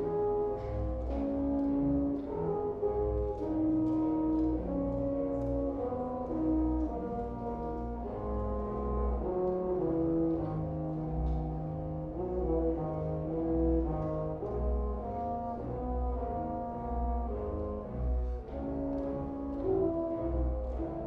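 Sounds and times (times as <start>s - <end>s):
brass instruments playing: 0.0s - 21.0s.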